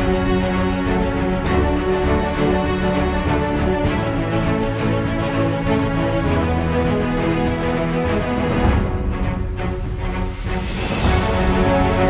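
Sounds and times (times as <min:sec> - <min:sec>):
music with sustained tones: 0:00.0 - 0:12.0.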